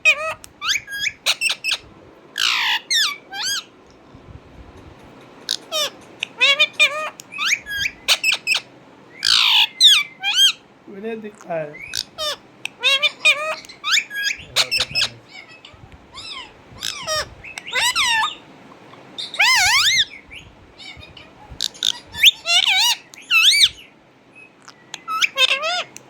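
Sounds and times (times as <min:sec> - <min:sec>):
parrot whistles and squawks: 0:00.0 - 0:01.8, 0:02.4 - 0:03.7, 0:05.5 - 0:10.6, 0:11.8 - 0:18.4, 0:19.0 - 0:26.0.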